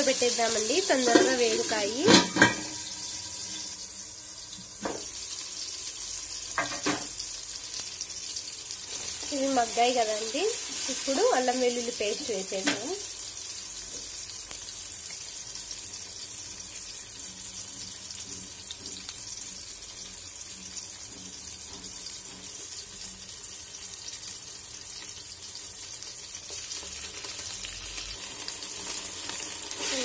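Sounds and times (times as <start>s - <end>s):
spices sizzling in hot oil: 0.0s - 30.0s.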